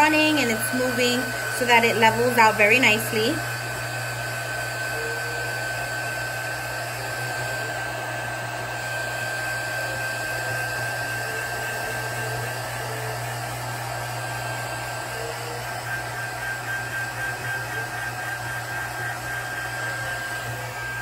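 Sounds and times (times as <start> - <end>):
heat gun blowing with high whine: 0.0 - 21.0.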